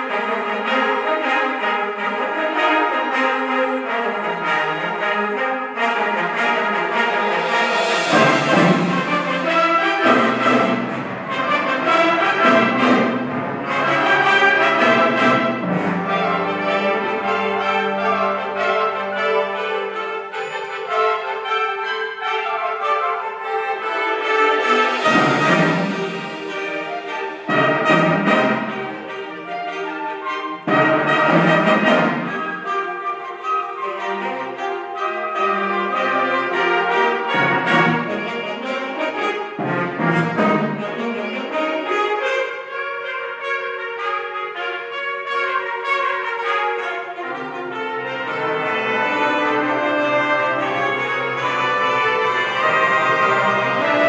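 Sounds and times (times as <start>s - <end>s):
low brass: 0.0s - 54.0s
school band playing brass piece: 0.0s - 54.0s.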